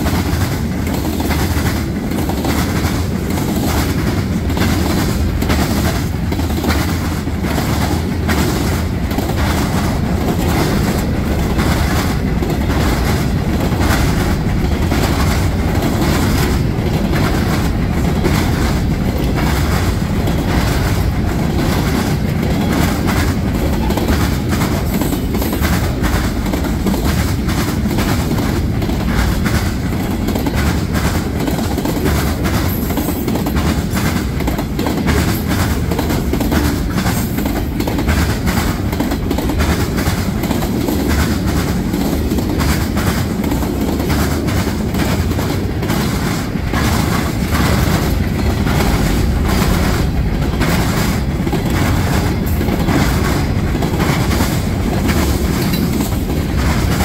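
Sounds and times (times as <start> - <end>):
freight train rumble: 0.0 - 57.0
train wheels clacking over crossing: 0.0 - 57.0.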